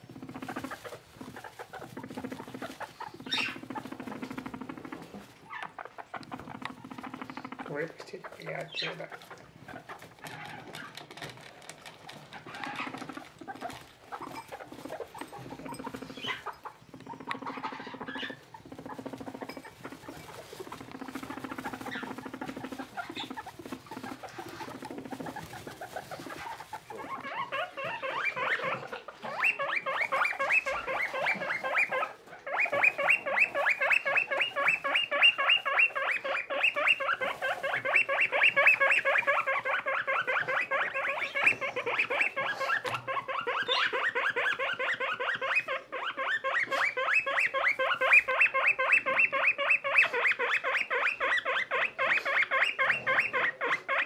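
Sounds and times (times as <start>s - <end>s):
guinea pig squeaking: 0.0s - 54.0s
guinea pigs rustling in hay: 0.0s - 54.0s
soft low guinea pig calls: 0.0s - 54.0s.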